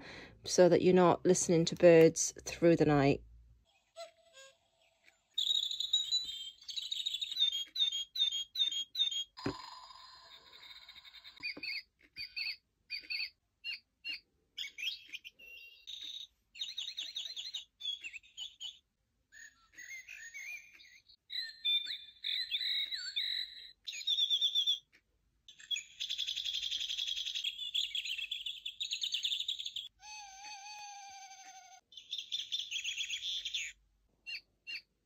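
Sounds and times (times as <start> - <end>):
recorded birdsong from a speaker: 0.5 - 3.2, 5.4 - 9.4, 10.4 - 24.9, 25.5 - 29.9, 31.9 - 35.0.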